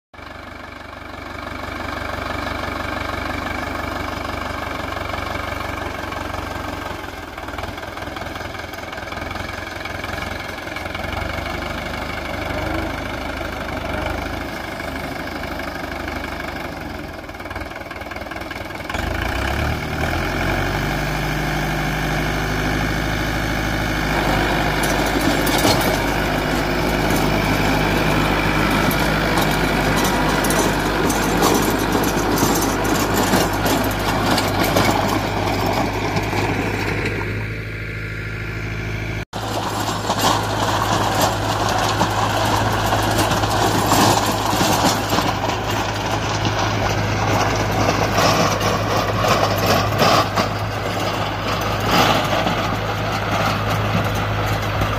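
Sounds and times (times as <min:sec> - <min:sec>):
tractor diesel engine under load: 0:00.1 - 0:54.9.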